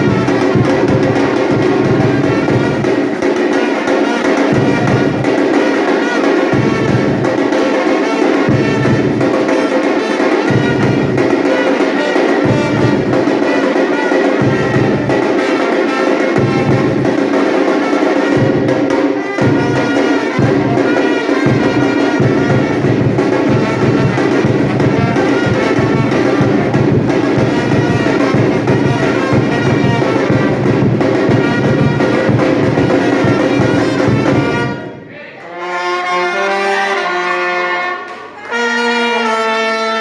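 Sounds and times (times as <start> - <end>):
drums: 0.0 - 35.1
brass horns playing melody: 0.0 - 40.0.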